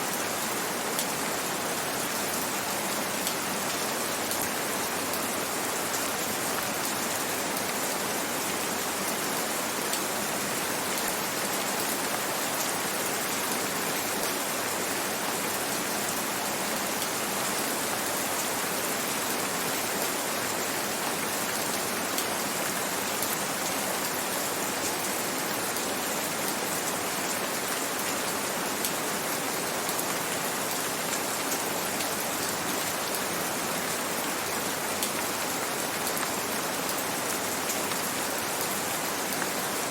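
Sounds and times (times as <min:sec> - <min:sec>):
gentle rain patter: 0:00.0 - 0:39.9.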